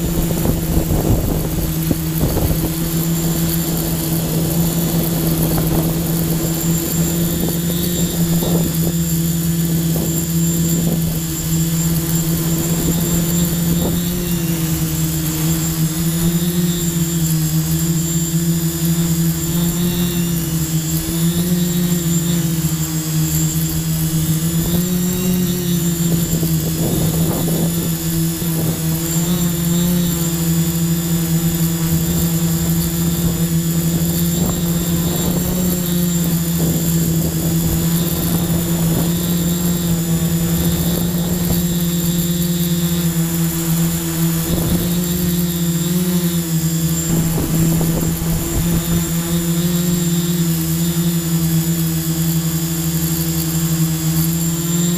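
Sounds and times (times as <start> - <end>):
drone propellers whining: 0.0 - 54.9.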